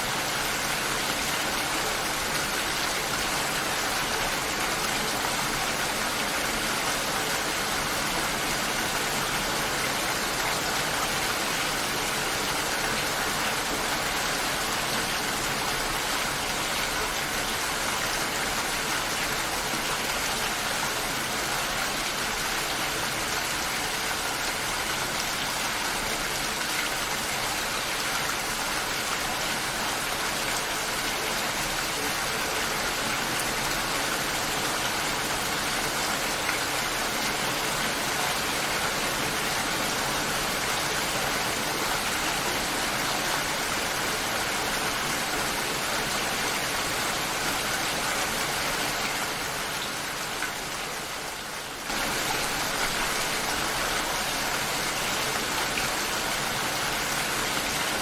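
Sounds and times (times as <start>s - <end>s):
dense rain falling: 0.0s - 58.0s.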